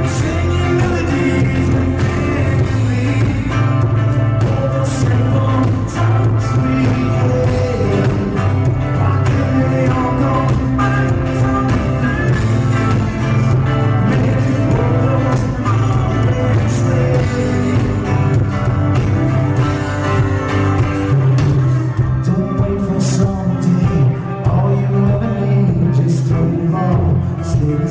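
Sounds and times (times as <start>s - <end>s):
man singing: 0.0s - 19.6s, 21.1s - 27.9s
country-rock band playing: 0.0s - 27.9s.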